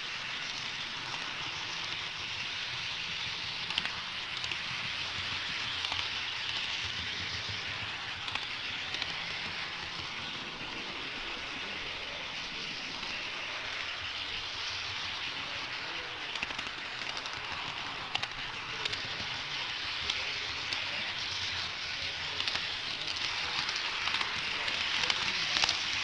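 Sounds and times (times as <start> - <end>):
model train wheels rolling: 0.0 - 26.0
wheels clicking over rail joints: 0.0 - 26.0.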